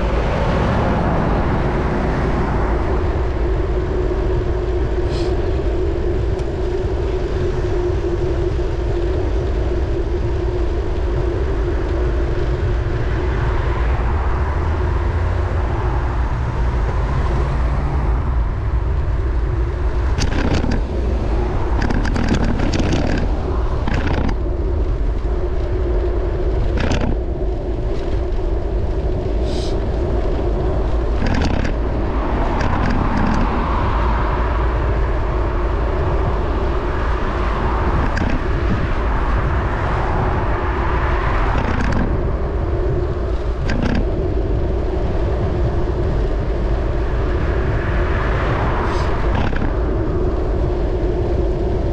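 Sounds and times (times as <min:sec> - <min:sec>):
passing cars: 0:00.0 - 0:51.9
road noise: 0:00.0 - 0:51.9
wind rumbling on microphone: 0:00.0 - 0:51.9.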